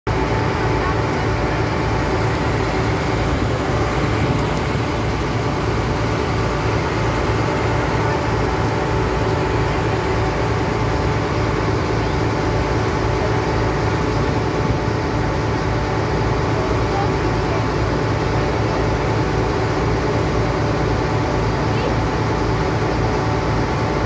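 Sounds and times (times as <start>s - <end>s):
ferry engine droning: 0.1s - 24.0s.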